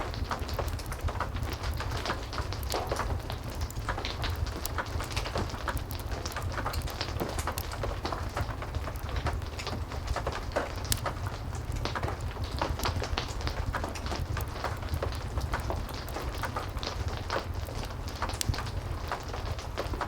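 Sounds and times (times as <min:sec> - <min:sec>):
heavy rain falling: 0:00.0 - 0:20.0
wood fire crackling: 0:00.0 - 0:20.0.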